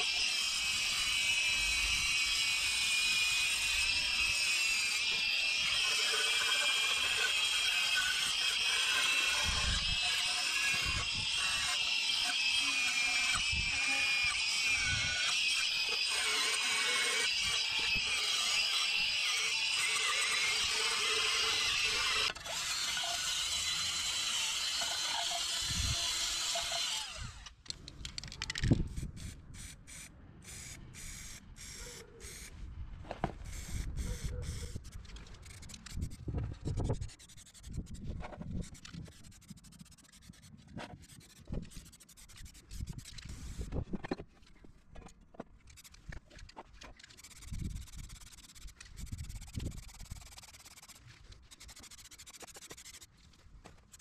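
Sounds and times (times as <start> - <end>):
drill wire brush scouring metal: 0.0 - 27.4, 33.5 - 44.0, 47.0 - 53.2.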